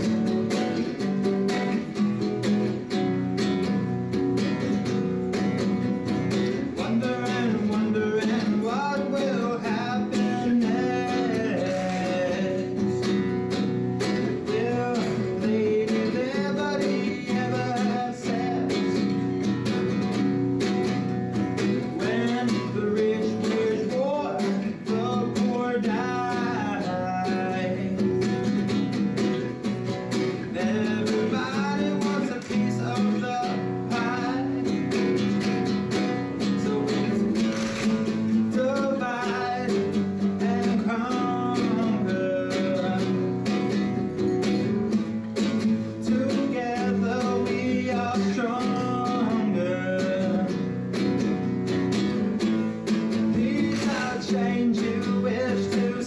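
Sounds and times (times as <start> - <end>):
acoustic guitar strumming: 0.0 - 56.0
man singing: 4.5 - 44.8, 45.4 - 56.0.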